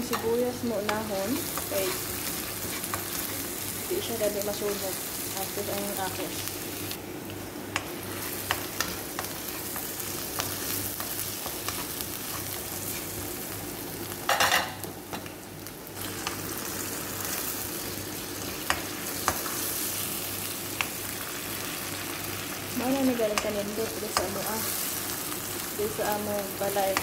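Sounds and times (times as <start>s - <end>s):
garlic and onion sizzling in oil: 0.0s - 27.0s.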